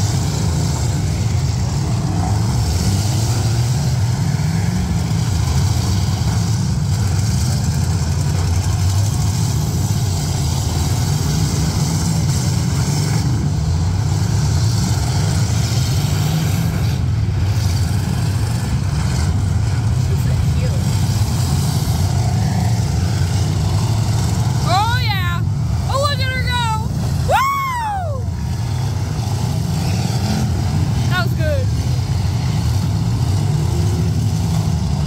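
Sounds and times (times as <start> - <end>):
many car engines revving: 0.0 - 35.0.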